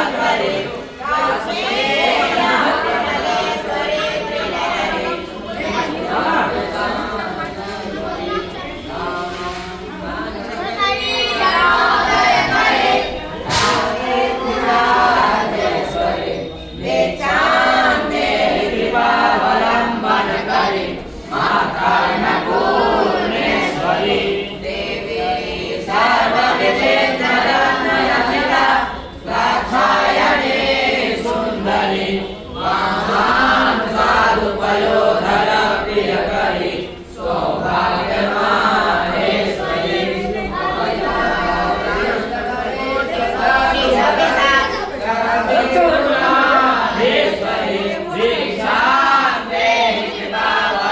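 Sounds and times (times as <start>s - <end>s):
group chanting a hymn in unison: 0.0s - 50.9s.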